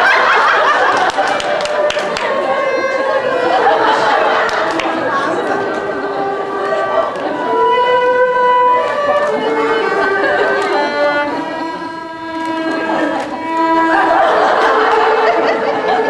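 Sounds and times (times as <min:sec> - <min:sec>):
bamboo flute melody: 0:00.0 - 0:16.0
erhu fiddle: 0:00.0 - 0:16.0
voices: 0:00.0 - 0:16.0.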